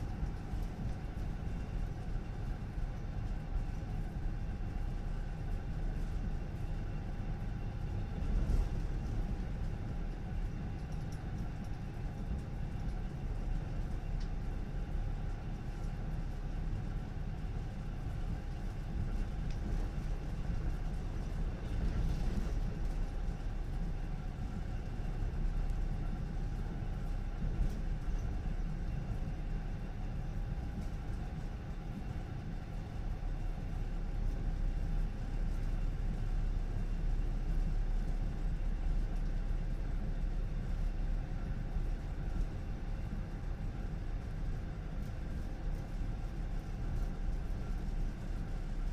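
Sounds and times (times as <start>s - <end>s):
electric train rumbling on track: 0.0s - 48.9s
faint steady hum: 0.0s - 48.9s.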